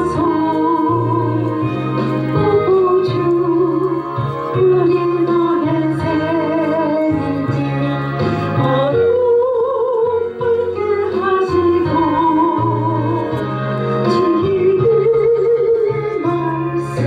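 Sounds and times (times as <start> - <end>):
backing track with repeating bass: 0.0 - 17.0
vocal melody with vibrato: 0.0 - 17.0.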